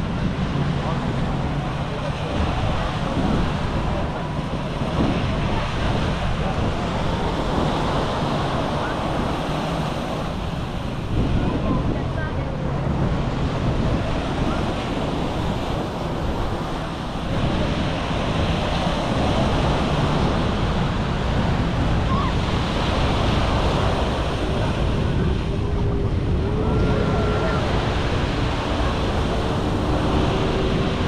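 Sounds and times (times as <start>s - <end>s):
sea surf washing onto beach: 0.0s - 31.0s
wind buffeting microphone: 0.0s - 31.0s.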